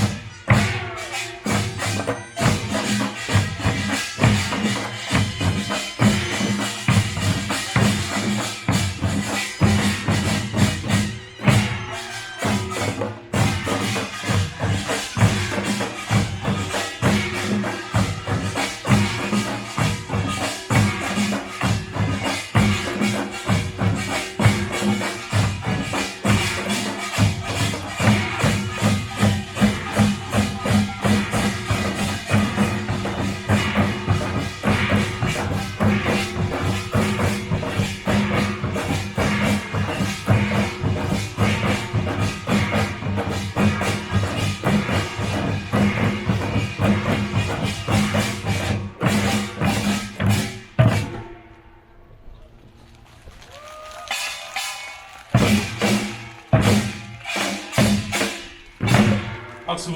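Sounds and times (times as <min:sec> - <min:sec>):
drums beating fast rhythm: 0:00.0 - 0:51.4, 0:53.5 - 0:59.9
gongs beating: 0:00.0 - 0:51.9, 0:54.1 - 0:59.9.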